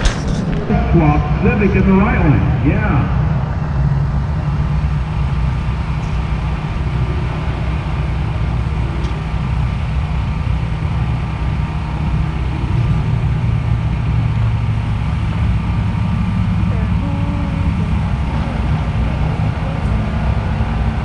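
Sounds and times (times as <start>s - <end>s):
car engines idling: 0.0s - 21.0s.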